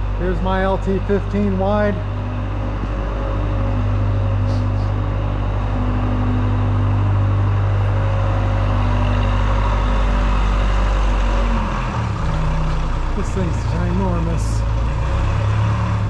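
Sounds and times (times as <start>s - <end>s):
heavy machinery engine drone: 0.0s - 16.0s.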